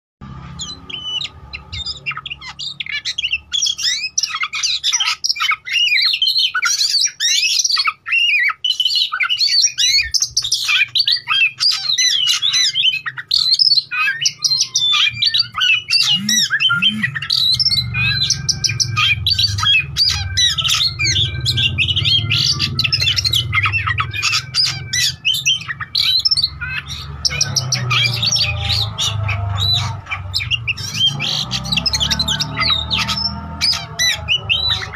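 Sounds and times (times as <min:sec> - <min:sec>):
songbird whistles and chirps: 0:00.6 - 0:34.9.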